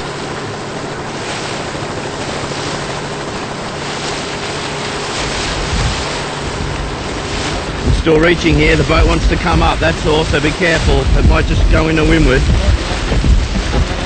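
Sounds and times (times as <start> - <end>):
wind and water rushing: 0.0 - 14.0
wind buffeting on microphone: 0.0 - 14.0.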